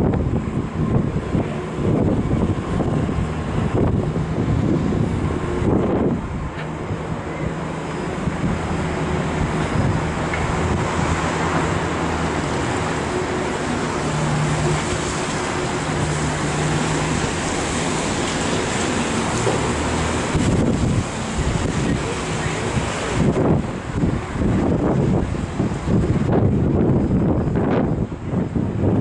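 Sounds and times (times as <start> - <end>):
low mechanical engine hum: 0.0 - 29.0
wind on microphone: 0.0 - 29.0.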